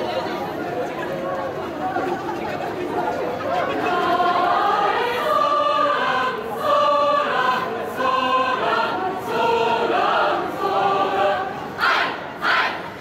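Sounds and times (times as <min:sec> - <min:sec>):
choir singing held notes: 0:02.0 - 0:13.0.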